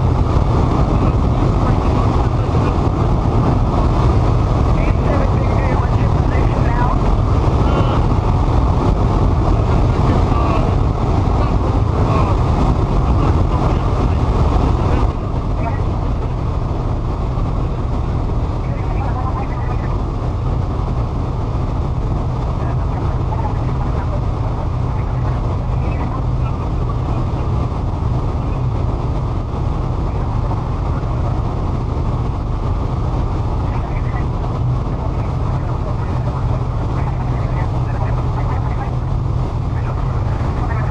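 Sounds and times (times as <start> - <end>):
loud rumble and hiss: 0.0 - 40.9.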